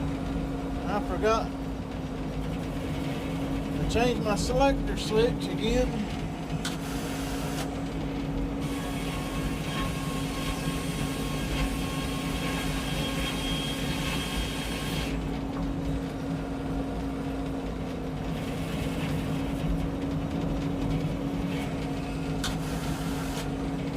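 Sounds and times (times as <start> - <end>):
circular sawmill humming: 0.0 - 23.9.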